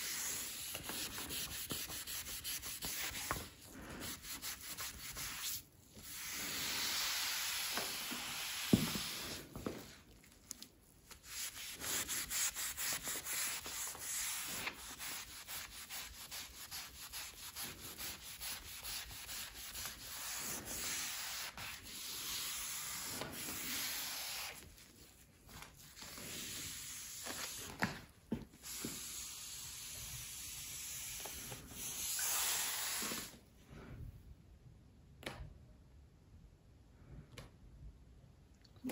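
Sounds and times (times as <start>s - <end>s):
cloth scrubbing worktop: 0.0s - 10.0s, 11.2s - 33.4s.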